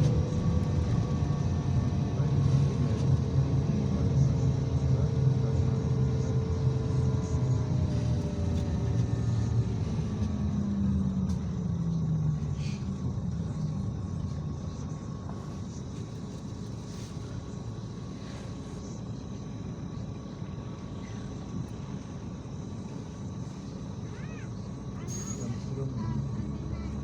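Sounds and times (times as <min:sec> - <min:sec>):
bus diesel engine rumbling: 0:00.0 - 0:27.0.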